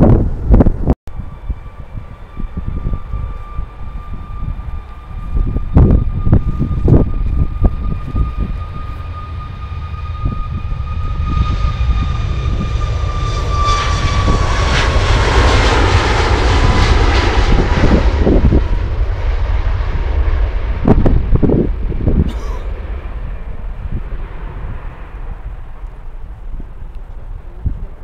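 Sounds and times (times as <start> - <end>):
jet engine whine and roar: 0.0 - 28.0
wind buffeting microphone: 0.0 - 28.0.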